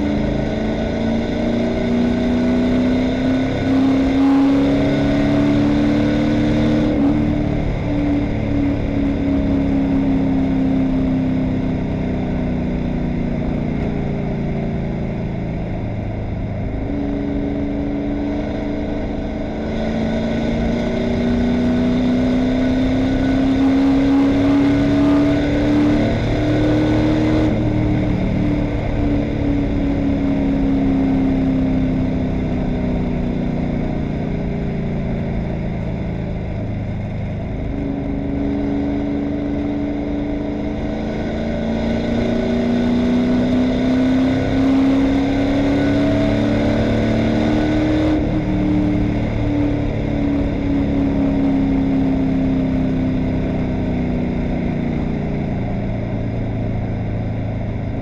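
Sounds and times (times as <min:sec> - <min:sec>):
race car engine revving: 0:00.0 - 0:11.9, 0:12.7 - 0:58.0.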